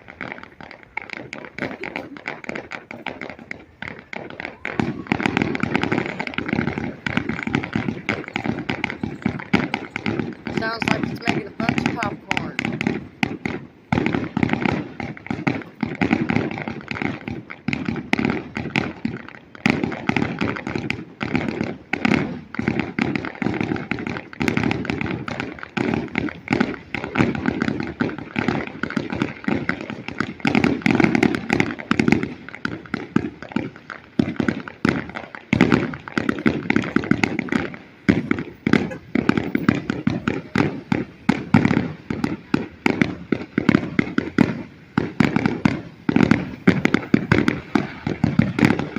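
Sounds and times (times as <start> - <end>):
fireworks banging and crackling: 0.0 - 48.9.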